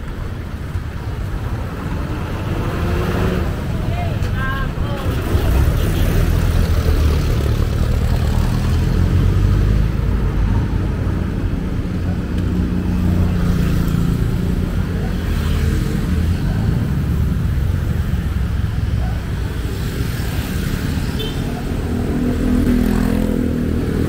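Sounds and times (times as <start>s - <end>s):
street traffic: 0.0s - 24.0s
vehicle engine rumbling: 0.0s - 24.0s.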